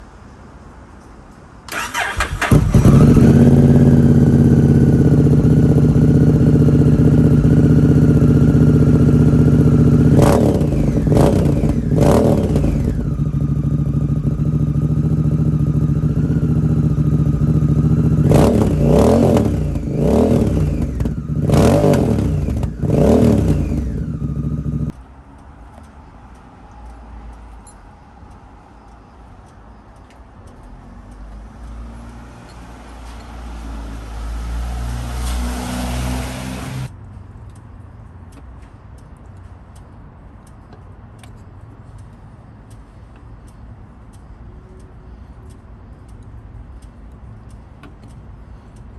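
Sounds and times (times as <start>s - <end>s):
motorcycle engine idling and revving: 1.7s - 26.0s, 30.6s - 37.7s, 38.3s - 48.9s.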